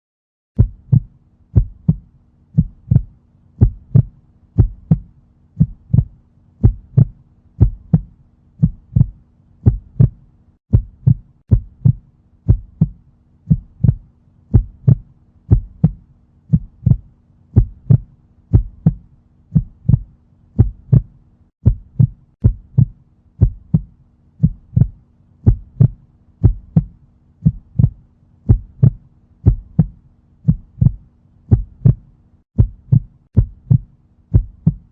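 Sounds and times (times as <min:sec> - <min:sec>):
heartbeat thumps: 0:00.6 - 0:34.9.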